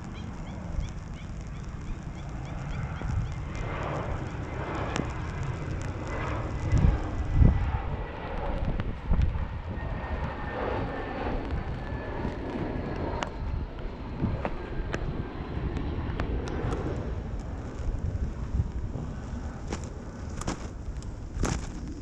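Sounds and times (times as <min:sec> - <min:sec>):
high jet engine whine: 0:00.0 - 0:22.0
jet airliner rumble: 0:00.0 - 0:22.0
wind buffeting microphone: 0:00.0 - 0:22.0.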